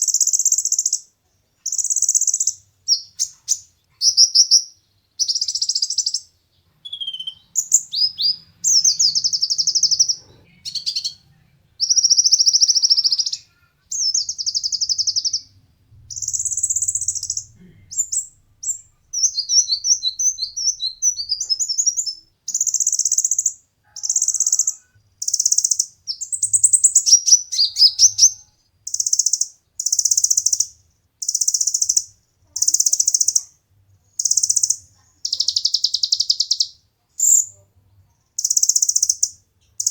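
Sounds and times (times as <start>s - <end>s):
bird singing trilled phrases: 0.0s - 37.6s, 38.4s - 39.9s.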